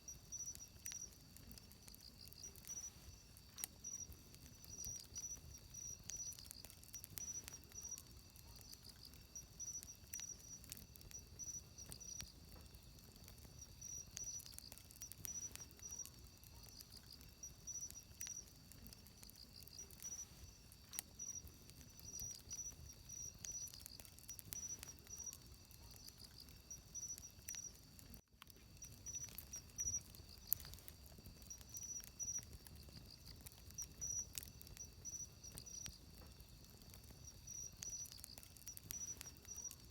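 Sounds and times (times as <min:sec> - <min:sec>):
insects chirping: 0:00.0 - 0:39.9
wood fire crackling and popping: 0:00.0 - 0:39.9.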